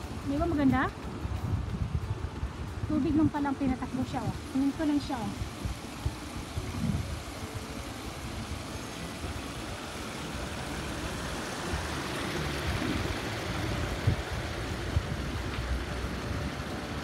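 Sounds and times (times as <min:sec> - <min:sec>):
water flowing in fountain: 0:00.0 - 0:17.0.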